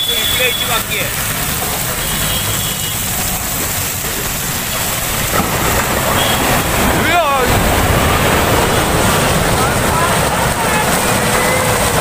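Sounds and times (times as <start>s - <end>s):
rain hissing: 0.0s - 12.0s
tyres on wet road: 0.0s - 12.0s
vehicle engines running: 0.0s - 12.0s.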